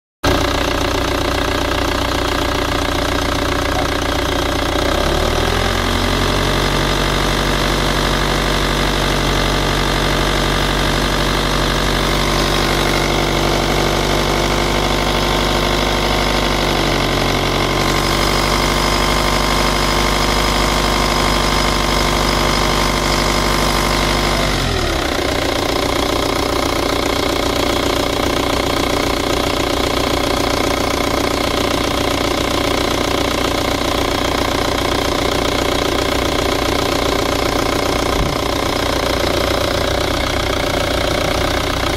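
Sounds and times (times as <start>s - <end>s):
diesel engine running: 0.2s - 41.9s.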